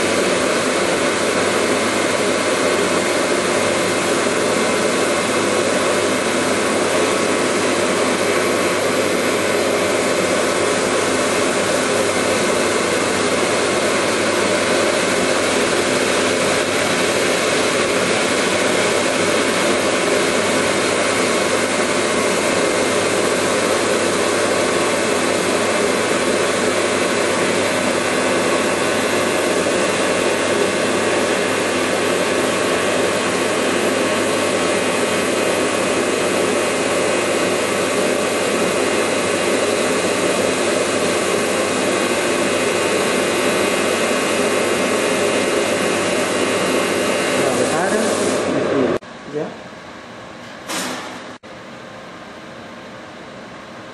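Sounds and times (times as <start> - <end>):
laser cutting machine rushing noise: 0.0 - 49.4.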